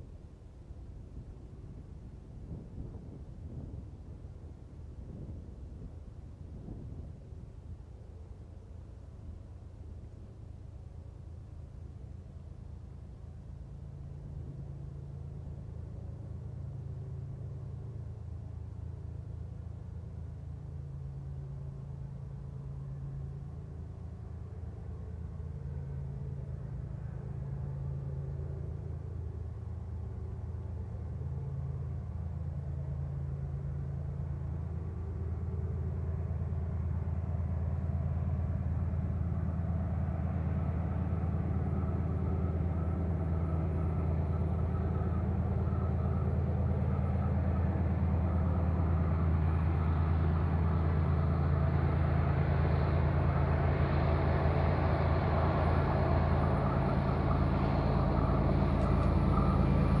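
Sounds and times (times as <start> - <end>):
train engine drone: 0.0 - 60.0.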